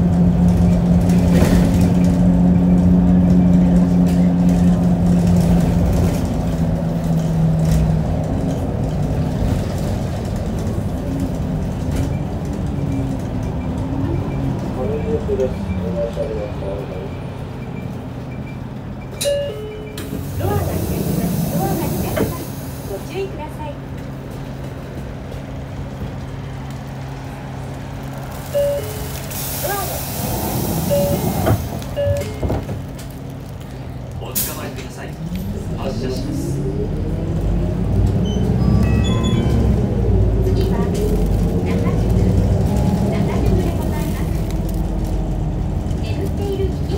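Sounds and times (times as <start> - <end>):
bus diesel engine rumbling: 0.0 - 46.9.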